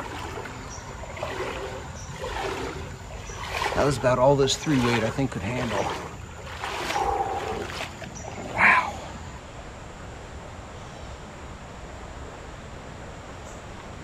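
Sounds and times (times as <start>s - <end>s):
creek running over riffles: 0.0s - 14.0s.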